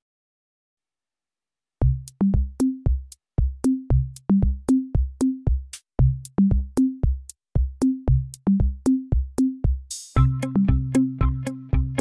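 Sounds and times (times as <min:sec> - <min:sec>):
electronic drum machine beat: 0:01.8 - 0:12.0.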